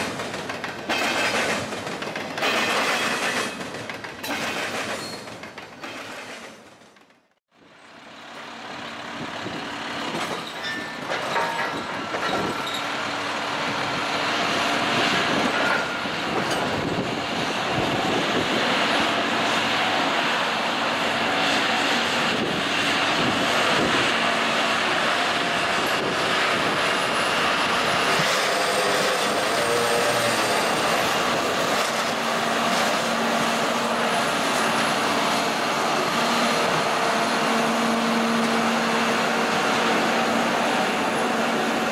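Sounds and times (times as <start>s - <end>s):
track machine engine drone: 7.6s - 41.9s.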